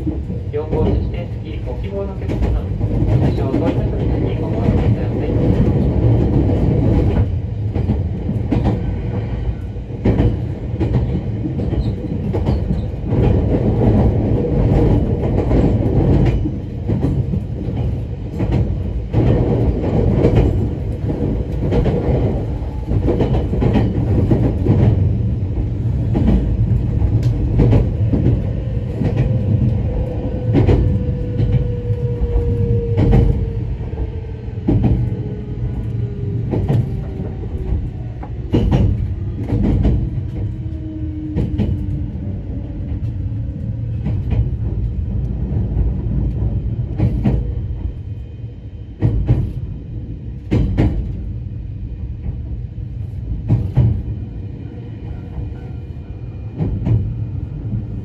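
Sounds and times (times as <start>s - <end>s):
electric train rumble: 0.0s - 58.0s.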